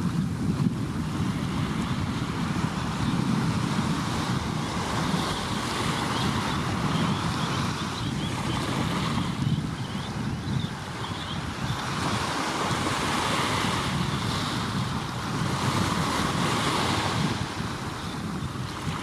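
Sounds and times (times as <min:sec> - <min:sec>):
waves breaking on shore: 0:00.0 - 0:19.0
wind buffeting microphone: 0:00.0 - 0:19.0.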